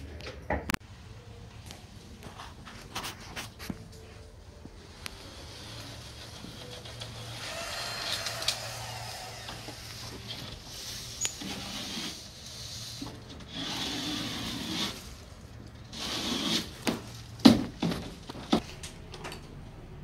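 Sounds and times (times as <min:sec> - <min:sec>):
rubbing and scraping handling noise: 0:01.8 - 0:18.8.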